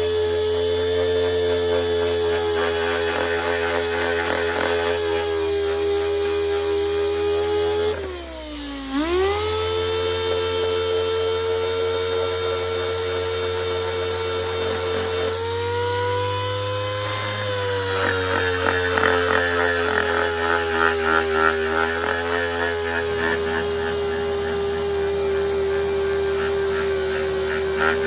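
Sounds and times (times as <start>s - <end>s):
sander whining: 0.0s - 28.0s.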